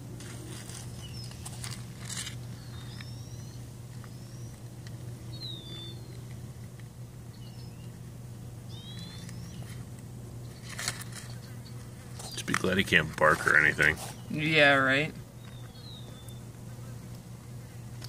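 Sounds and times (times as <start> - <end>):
steady low hum: 0.0 - 18.0
small birds chirping: 0.7 - 18.0.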